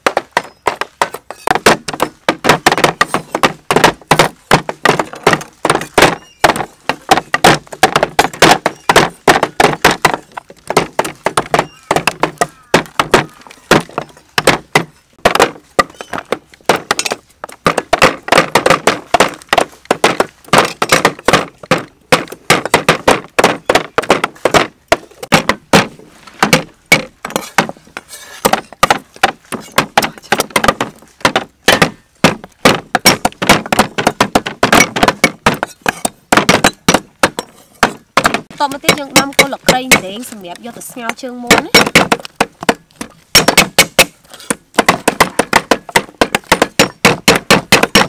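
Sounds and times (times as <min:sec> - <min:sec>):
cleavers chopping on wooden boards: 0:00.0 - 0:48.0.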